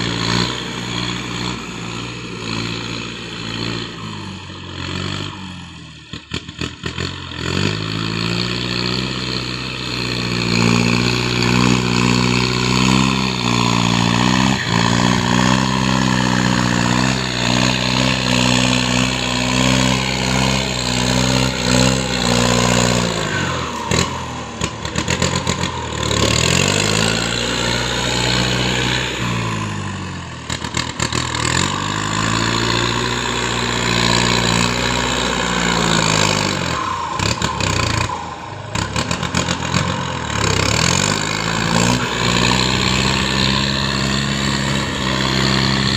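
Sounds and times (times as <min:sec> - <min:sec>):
engine revving and idling: 0:00.0 - 0:45.9.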